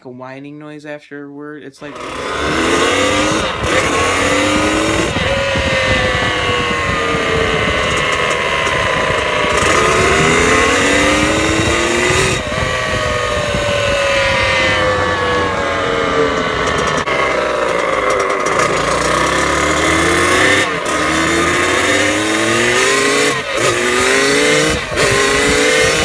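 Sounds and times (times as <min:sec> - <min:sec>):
dirt bike engine revving: 0:01.8 - 0:26.0.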